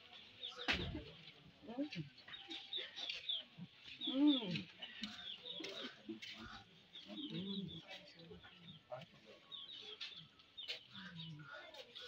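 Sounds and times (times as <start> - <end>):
birds chirping: 0.0 - 12.0
murmur of crowd voices: 0.0 - 12.0.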